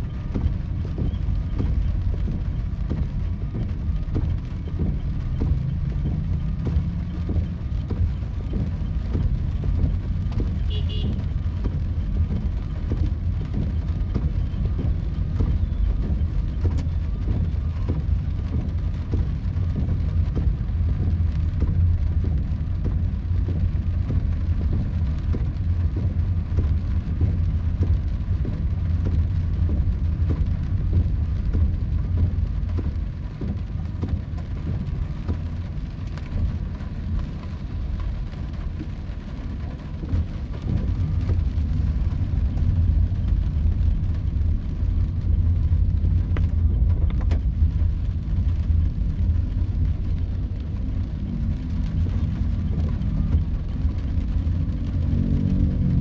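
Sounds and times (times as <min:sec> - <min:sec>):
car engine and tyres on wet road: 0:00.0 - 0:56.0
rain hitting car: 0:00.0 - 0:56.0.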